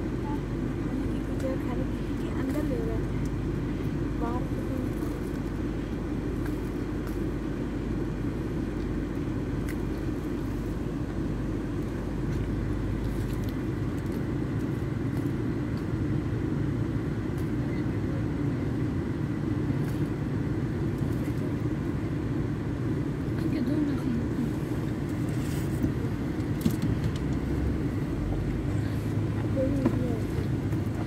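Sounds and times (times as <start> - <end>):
low rumble: 0.0 - 31.0.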